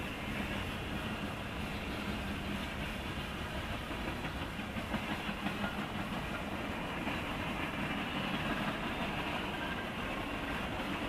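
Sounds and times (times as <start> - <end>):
train wheels rolling on rails: 0.0 - 11.0
faint wheel clicks on rail joints: 0.4 - 11.0.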